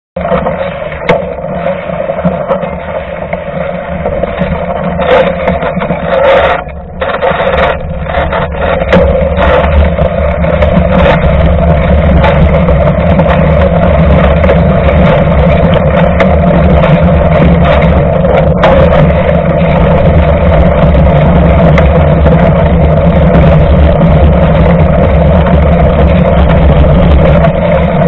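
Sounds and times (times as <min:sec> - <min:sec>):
bike tyre and wind rumble: 0:00.2 - 0:28.0.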